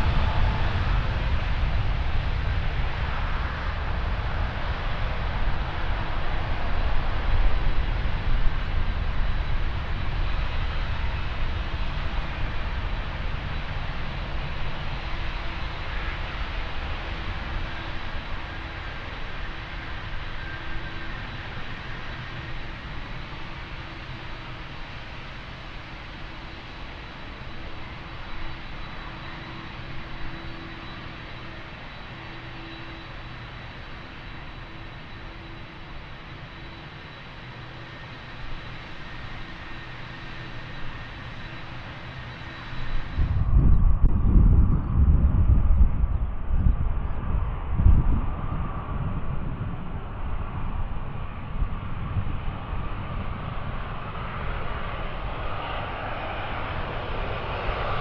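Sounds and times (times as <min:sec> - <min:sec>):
jet airliner engine rumble: 0:00.0 - 0:58.0.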